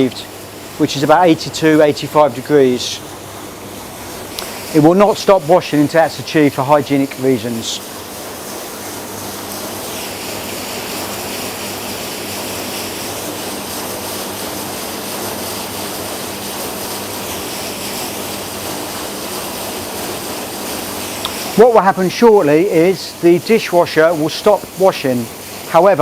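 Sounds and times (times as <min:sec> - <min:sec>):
dishwasher pump hum: 0:00.0 - 0:26.0
water spraying inside dishwasher: 0:00.0 - 0:26.0.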